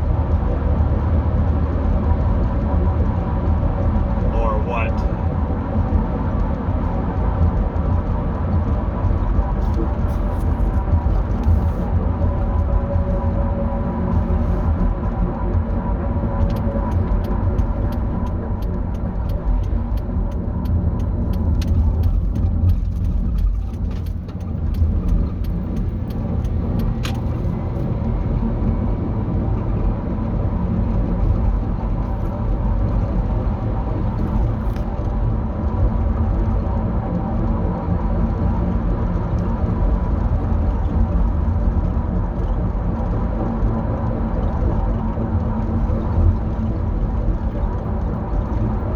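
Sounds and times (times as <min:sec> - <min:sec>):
vehicle road rumble: 0:00.0 - 0:48.9.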